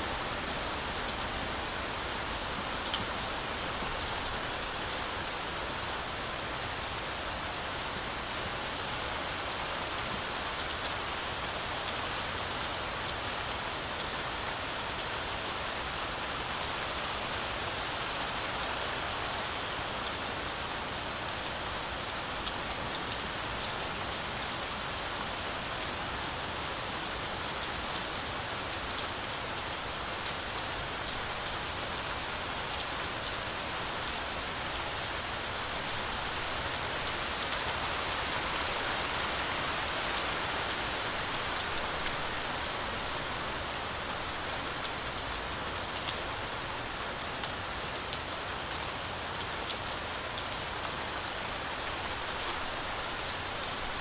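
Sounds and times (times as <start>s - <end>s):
heavy rain through trees: 0.0s - 54.0s.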